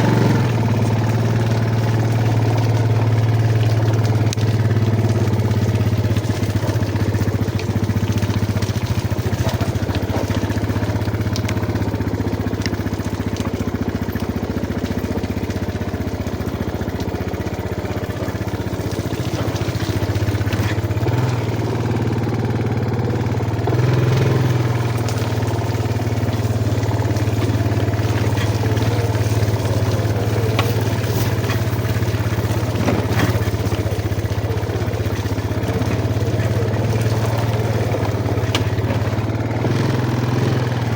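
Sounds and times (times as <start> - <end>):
clicks and rattles: 0.0 - 40.9
motorcycle engine running: 0.0 - 40.9.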